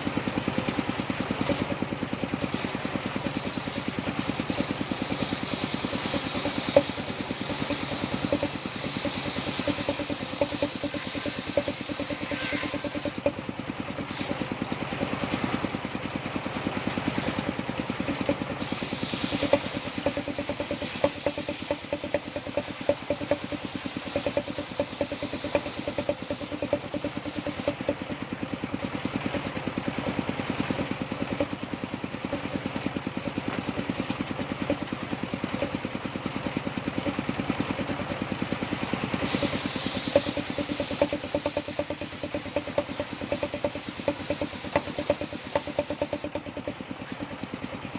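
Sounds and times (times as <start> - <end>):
engine running with fast beat: 0.0 - 47.9.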